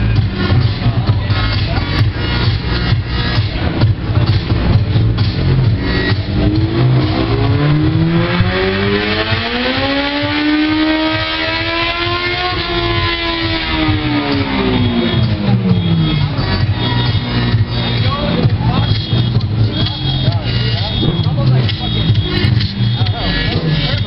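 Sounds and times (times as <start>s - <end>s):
background music: 0.0s - 24.0s
motorcycle engine revving: 0.0s - 24.0s.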